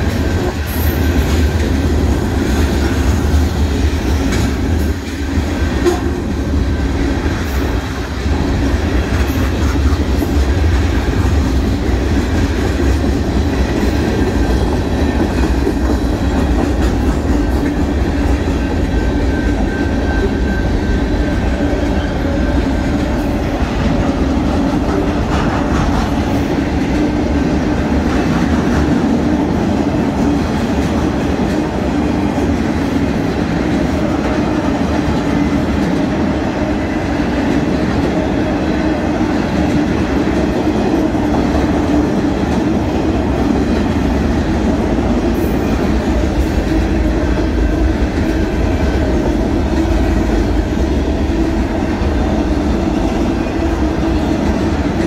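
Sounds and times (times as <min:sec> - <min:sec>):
freight train rumbling past: 0:00.0 - 0:55.0
steel wheels clattering on rails: 0:00.0 - 0:55.0.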